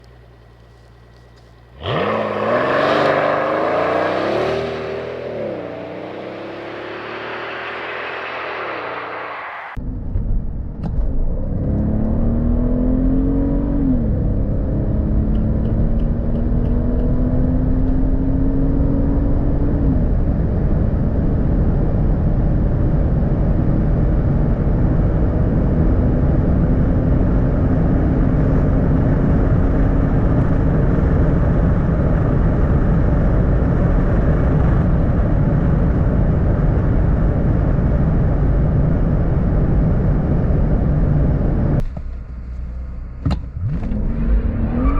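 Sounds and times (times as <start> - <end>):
wind and tyre roar: 0.0 - 44.9
car engine accelerating hard: 1.7 - 9.8, 11.0 - 41.8, 43.1 - 44.9.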